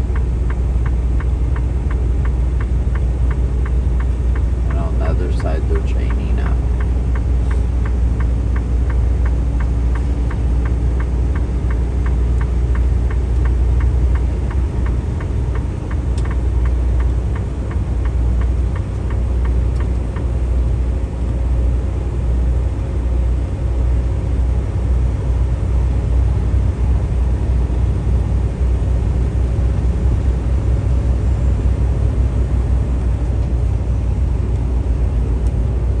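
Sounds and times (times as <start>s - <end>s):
truck engine and tires rumbling: 0.0s - 36.0s.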